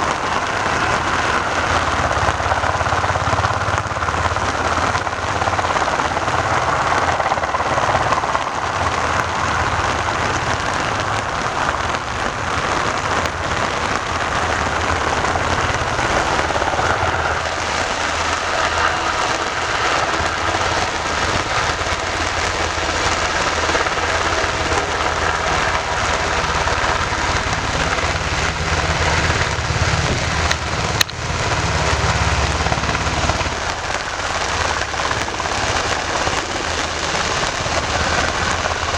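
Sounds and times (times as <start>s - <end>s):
helicopter engine and rotor drone: 0.0s - 38.9s
rain pattering: 0.0s - 38.9s.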